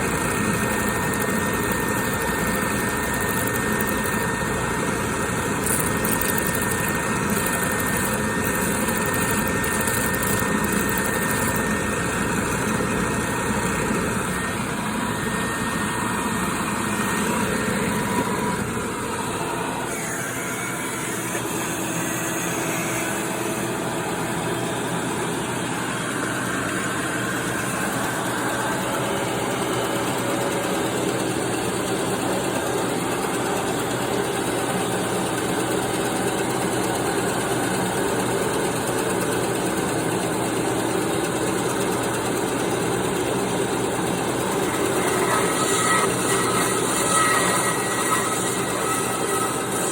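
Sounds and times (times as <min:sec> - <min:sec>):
bandsaw running: 0:00.0 - 0:49.9.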